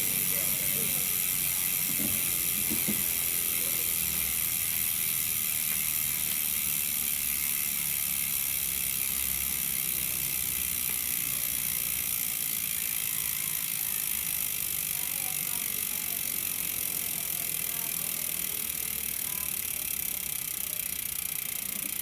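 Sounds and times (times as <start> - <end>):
bicycle hub freewheeling buzz: 0.0 - 22.0.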